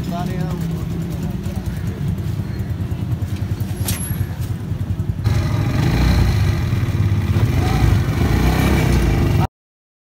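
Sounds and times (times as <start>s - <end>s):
motorcycle rickshaw engine rumbling: 0.0s - 9.5s.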